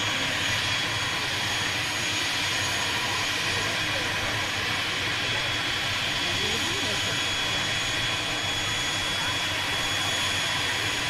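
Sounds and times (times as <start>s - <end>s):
turboprop engine hiss and whine: 0.0s - 11.0s.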